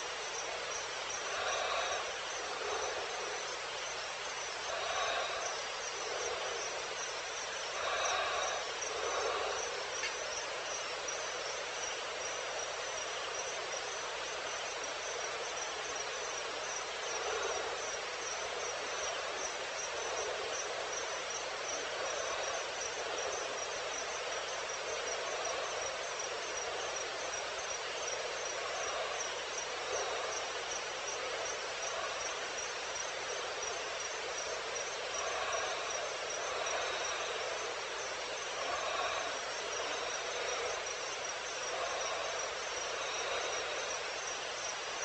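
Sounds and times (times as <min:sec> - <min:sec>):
crickets chirping: 0:00.0 - 0:45.0
soft background hiss: 0:00.0 - 0:45.0.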